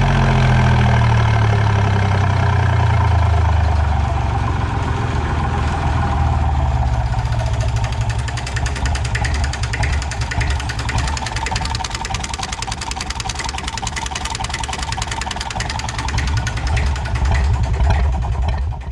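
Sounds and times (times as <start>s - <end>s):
diesel tractor engine running: 0.0s - 18.9s.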